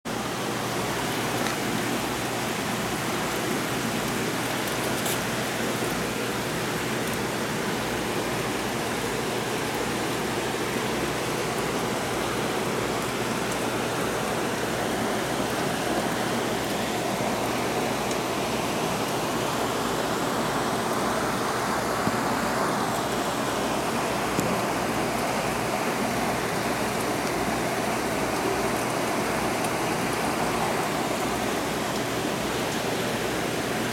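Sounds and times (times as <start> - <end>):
aquarium water rushing: 0.1 - 33.9.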